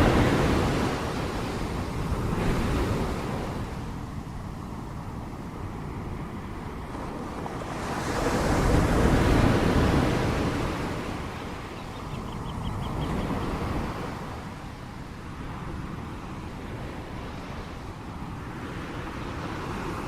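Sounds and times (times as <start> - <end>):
ocean wave breaking: 0.0 - 20.0.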